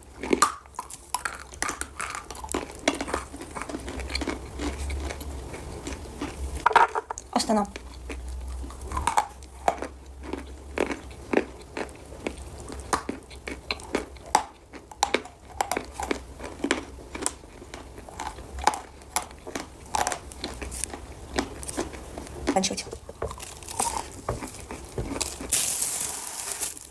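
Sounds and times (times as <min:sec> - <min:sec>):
chalk crunching when chewed: 0:00.2 - 0:06.4, 0:07.2 - 0:22.6, 0:23.3 - 0:26.9.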